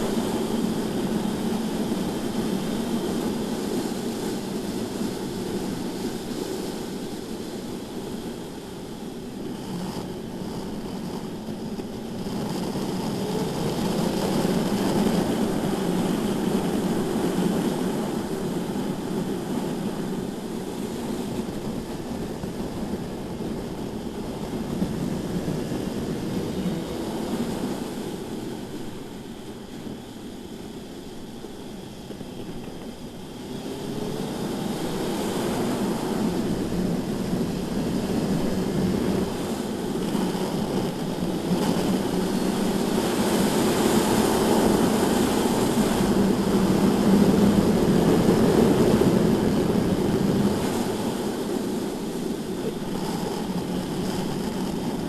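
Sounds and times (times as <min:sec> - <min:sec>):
wind rush: 0:00.0 - 0:55.0.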